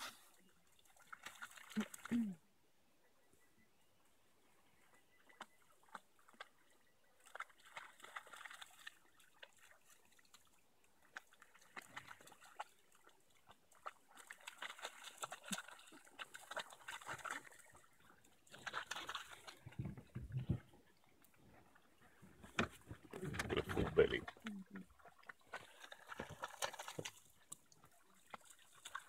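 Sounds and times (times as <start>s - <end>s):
dogs lapping water: 0.0s - 2.2s, 4.4s - 29.0s.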